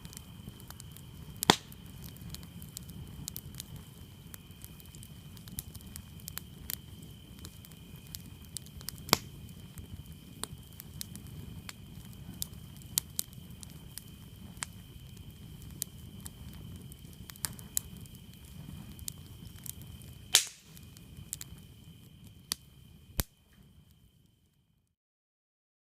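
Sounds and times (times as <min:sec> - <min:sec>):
campfire crackling and popping: 0:00.0 - 0:24.6
crickets chirping: 0:00.0 - 0:24.8.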